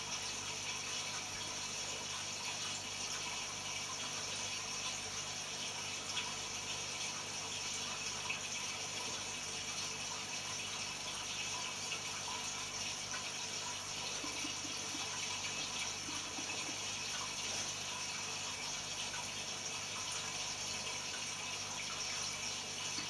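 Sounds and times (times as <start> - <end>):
aquarium water splashing: 0.6 - 23.0.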